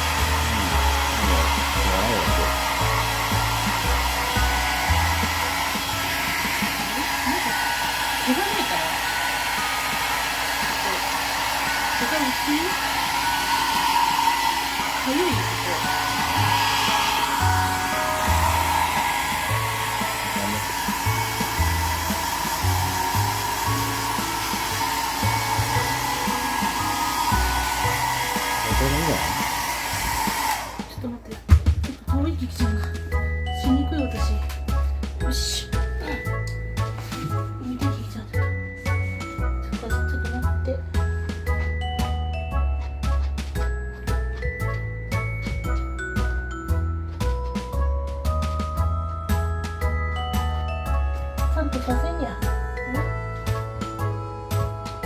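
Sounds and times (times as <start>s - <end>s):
hair dryer blowing: 0.0s - 55.0s.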